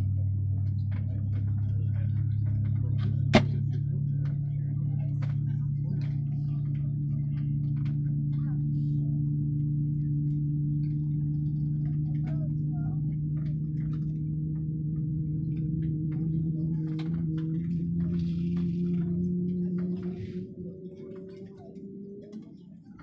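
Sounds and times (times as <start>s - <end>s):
airliner systems hum: 0.0s - 23.0s
faint passenger chatter: 0.0s - 23.0s.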